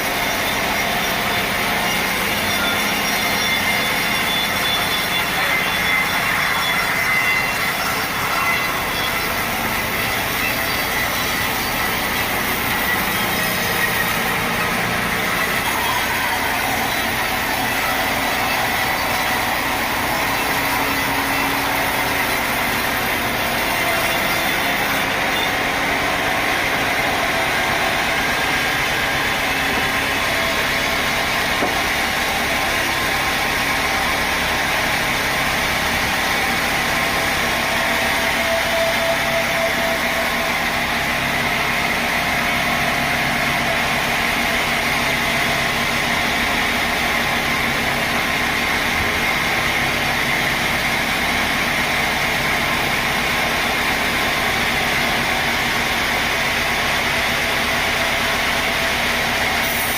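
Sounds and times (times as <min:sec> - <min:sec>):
faint machine whine: 0:00.0 - 0:59.9
sawmill machinery running: 0:00.0 - 0:59.9.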